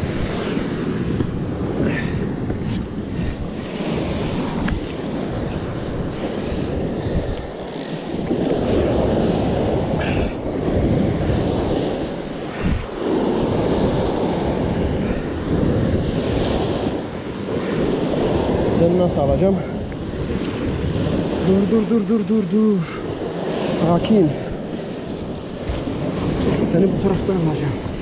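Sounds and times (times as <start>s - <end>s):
sea waves breaking on rocks: 0.0s - 28.0s
wind buffeting microphone: 0.0s - 28.0s.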